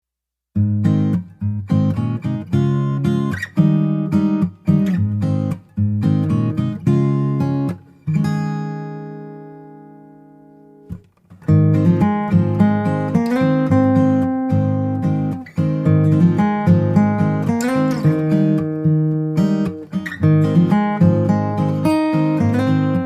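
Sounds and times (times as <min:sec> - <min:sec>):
strummed acoustic guitar: 0:00.5 - 0:23.0.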